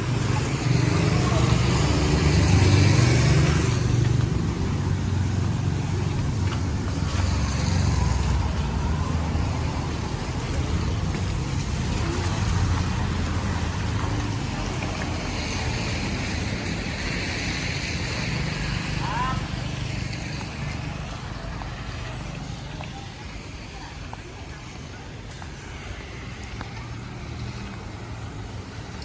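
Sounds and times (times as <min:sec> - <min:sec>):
low traffic rumble: 0:00.0 - 0:29.0.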